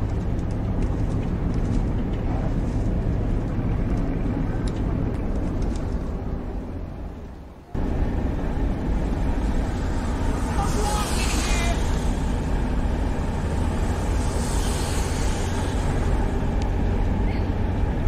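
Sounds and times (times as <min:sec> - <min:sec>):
car engines: 0:00.0 - 0:18.0
traffic noise: 0:00.0 - 0:18.0.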